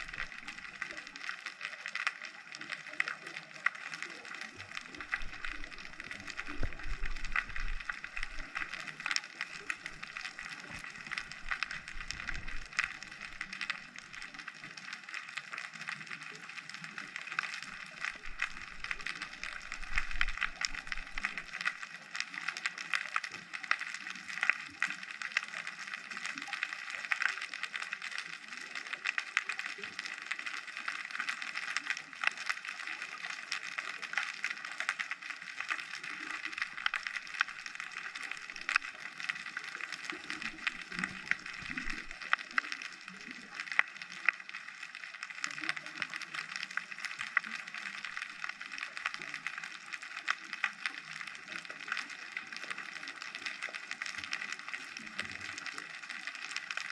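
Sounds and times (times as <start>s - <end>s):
soft low underwater rumbles: 0.0s - 56.9s
underwater crackling clicks: 0.0s - 56.9s.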